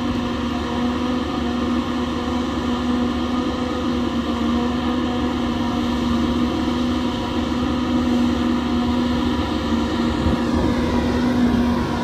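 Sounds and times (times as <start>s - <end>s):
forage harvester machine drone: 0.0s - 12.0s
high machine whine: 0.0s - 12.0s.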